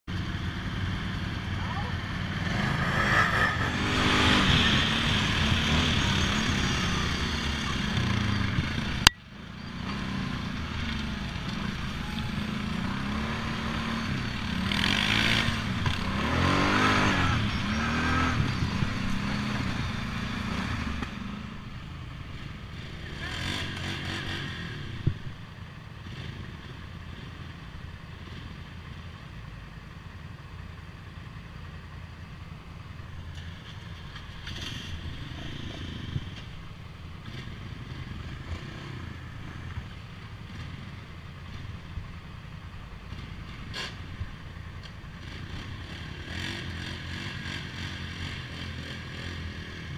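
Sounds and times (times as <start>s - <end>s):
quad engines revving: 0.1s - 25.4s, 33.3s - 41.8s, 43.0s - 49.9s.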